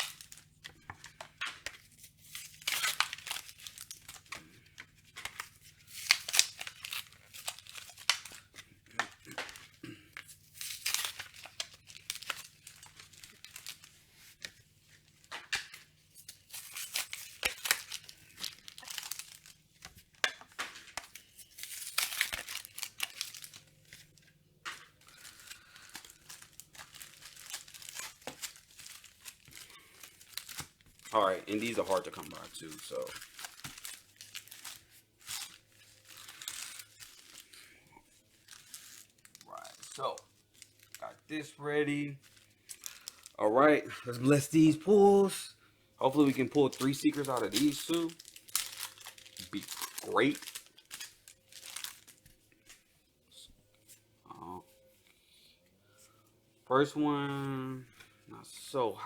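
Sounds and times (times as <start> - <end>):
cards being handled: 0.0 - 45.4, 46.0 - 54.1
foil packs tearing open: 0.0 - 45.4, 46.0 - 52.8
wrappers crinkling: 0.0 - 58.8.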